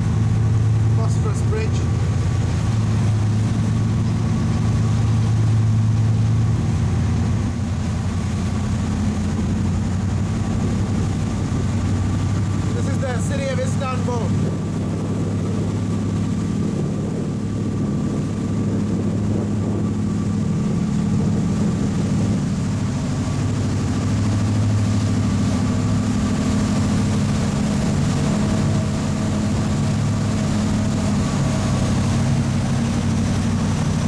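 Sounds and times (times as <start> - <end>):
ferry engine droning: 0.0 - 34.0
wake churning: 0.0 - 34.0.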